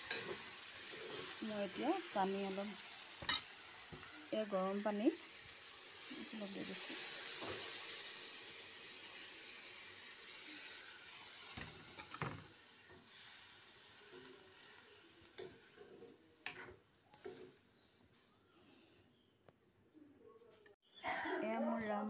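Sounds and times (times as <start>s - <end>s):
hot water sizzling in a pan: 0.0s - 18.4s.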